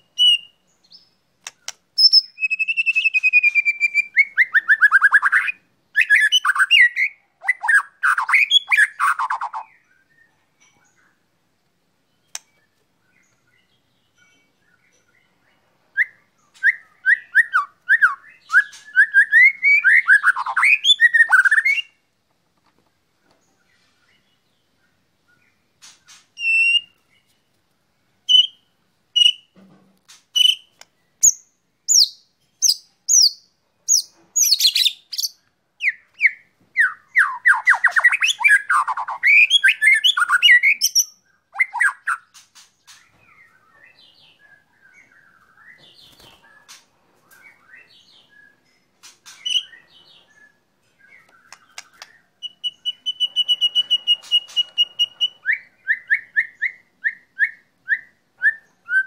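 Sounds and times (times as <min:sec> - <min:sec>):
bird singing whistles and trills: 0:00.0 - 0:11.2, 0:16.0 - 0:22.0, 0:25.3 - 0:27.3, 0:28.3 - 0:29.5, 0:30.4 - 0:59.0.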